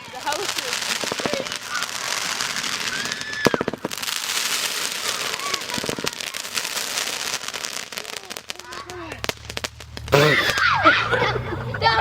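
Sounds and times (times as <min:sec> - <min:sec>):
fireworks crackling and popping: 0:00.0 - 0:11.4.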